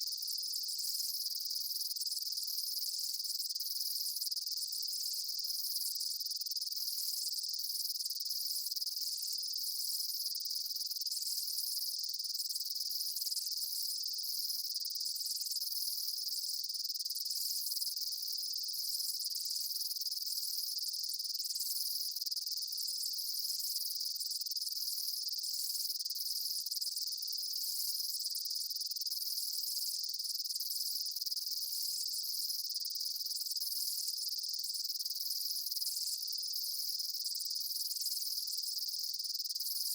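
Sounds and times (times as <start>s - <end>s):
insect chorus trilling: 0.1s - 39.9s.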